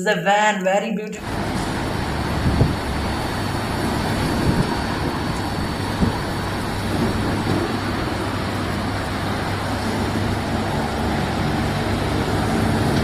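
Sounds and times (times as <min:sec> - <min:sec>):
running water rushing: 0:01.2 - 0:13.0.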